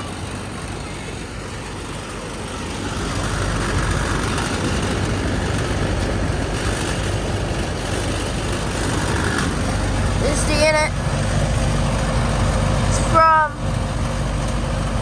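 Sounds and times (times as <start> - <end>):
air conditioner unit humming: 0.0 - 15.0
fan rushing: 0.0 - 15.0.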